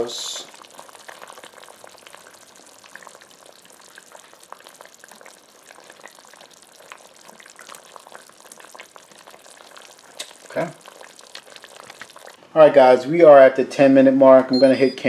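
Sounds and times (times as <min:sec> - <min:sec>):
curry bubbling and sizzling: 0:00.0 - 0:12.7.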